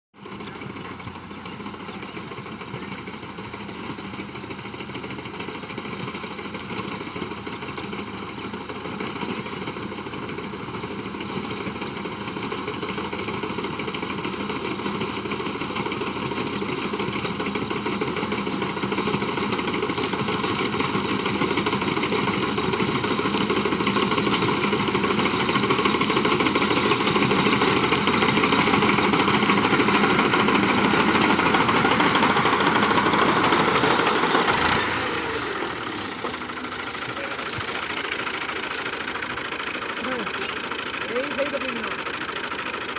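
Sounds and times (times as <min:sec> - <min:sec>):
reaper engine running: 0:00.2 - 0:42.9.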